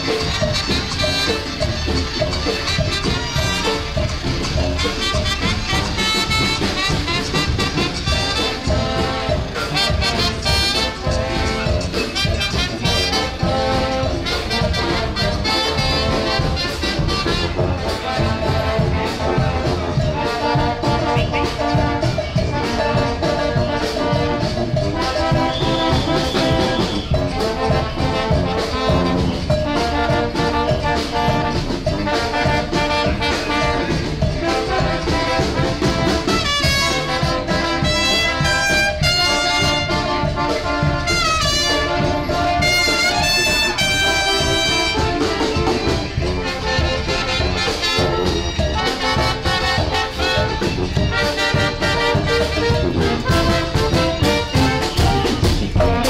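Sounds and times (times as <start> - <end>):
lively brass-like music: 0.0 - 56.0.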